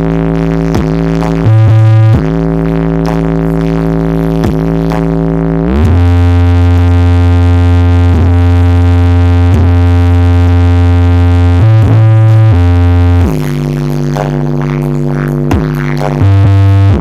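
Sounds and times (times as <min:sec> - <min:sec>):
deep synthesizer bass note: 0:00.0 - 0:17.0.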